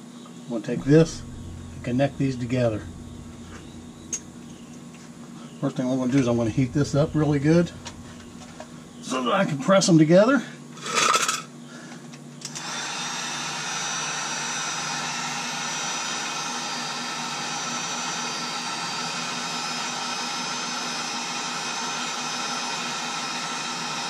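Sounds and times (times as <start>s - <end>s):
heat gun fan blowing: 0.8s - 9.0s, 12.4s - 23.8s.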